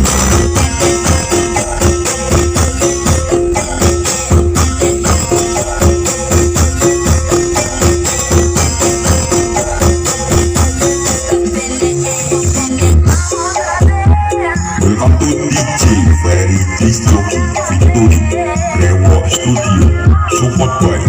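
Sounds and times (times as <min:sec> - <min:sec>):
dance music over sound system: 0:00.0 - 0:21.0.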